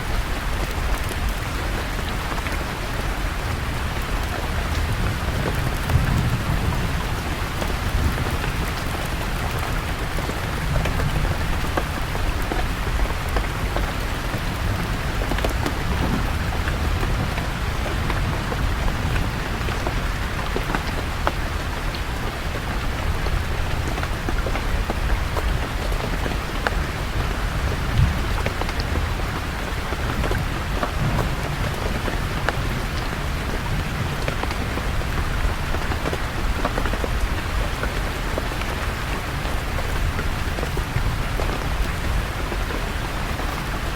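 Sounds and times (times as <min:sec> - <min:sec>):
rain falling on leaves: 0:00.0 - 0:43.9
distant thunder rumble: 0:00.1 - 0:43.6.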